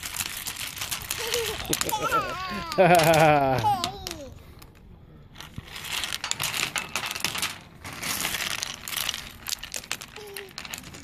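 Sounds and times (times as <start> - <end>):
pebbles clattering on brick: 0.0 - 11.0.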